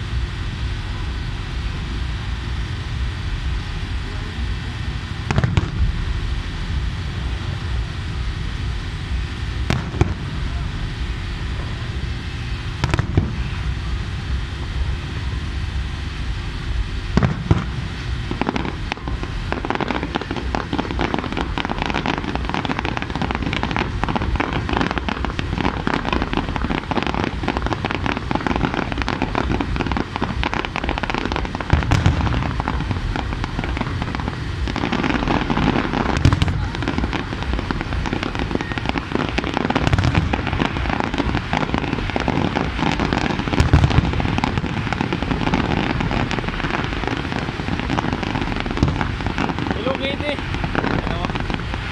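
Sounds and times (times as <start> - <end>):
firework shells booming: 0.0 - 51.9
fireworks crackling: 0.0 - 51.9.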